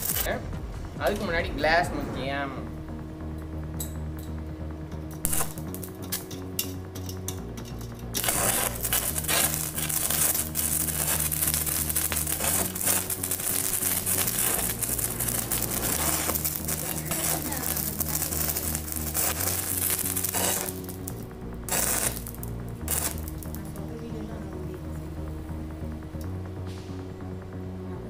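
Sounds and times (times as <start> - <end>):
welding arc crackling: 0.0 - 1.5, 3.2 - 27.5
background music: 0.0 - 28.0.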